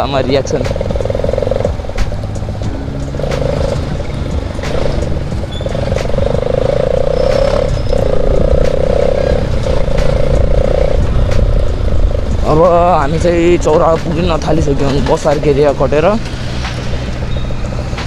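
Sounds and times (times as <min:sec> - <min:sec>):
motorcycle exhaust note: 0:00.0 - 0:18.0
wind and road noise rumble: 0:00.0 - 0:18.0.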